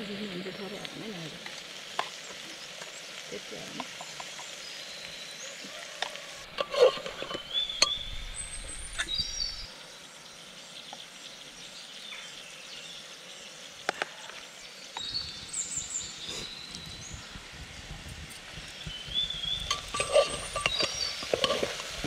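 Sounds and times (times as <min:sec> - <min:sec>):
curry sizzling in a pot: 0:00.0 - 0:22.0.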